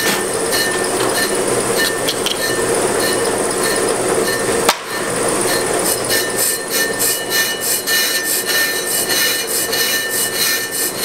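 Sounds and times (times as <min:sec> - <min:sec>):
brake lathe mechanical hum: 0:00.0 - 0:11.0.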